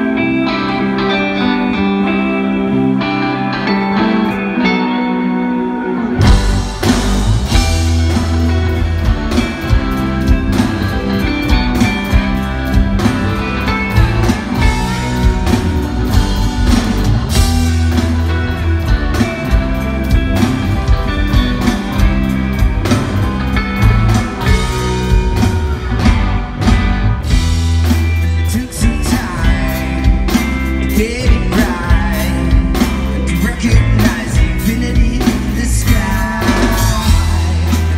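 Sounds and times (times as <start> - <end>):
live rock band playing: 0.0 - 37.9
steady drum beat: 6.2 - 37.9.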